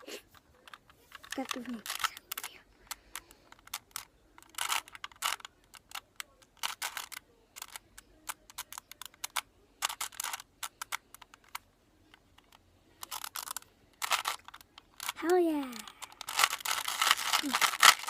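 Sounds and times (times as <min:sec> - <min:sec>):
puzzle cube clicking and rattling: 0:00.2 - 0:18.0.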